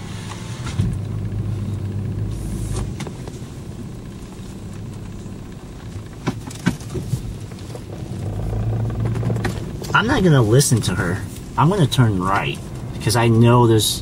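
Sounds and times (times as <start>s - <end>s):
car engine and cabin hum: 0.0s - 14.0s.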